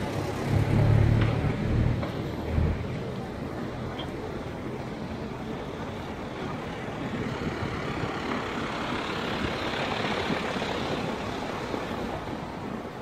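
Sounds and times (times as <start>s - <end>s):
street rushing noise: 0.0s - 13.0s.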